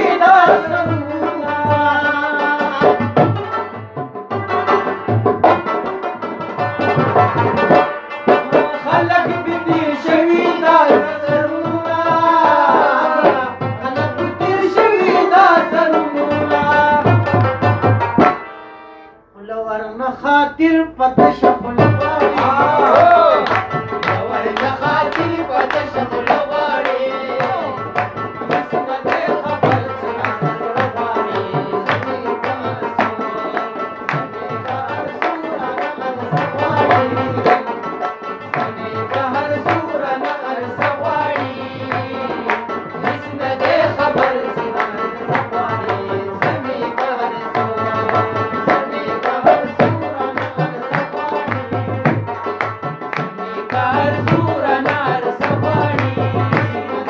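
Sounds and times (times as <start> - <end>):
tabla rhythm: 0.0 - 19.1, 20.1 - 57.0.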